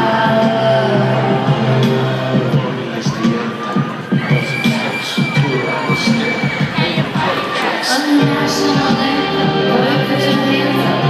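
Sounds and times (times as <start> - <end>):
live band music through speakers: 0.0 - 11.0.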